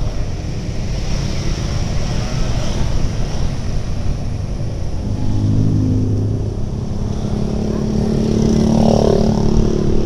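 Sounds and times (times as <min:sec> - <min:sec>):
road noise: 0:00.0 - 0:10.0
wind rushing over microphone: 0:00.0 - 0:10.0.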